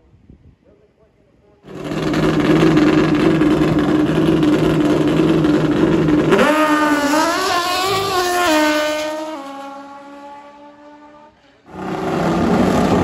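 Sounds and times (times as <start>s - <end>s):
motorcycle engine at high revs: 1.7s - 13.0s.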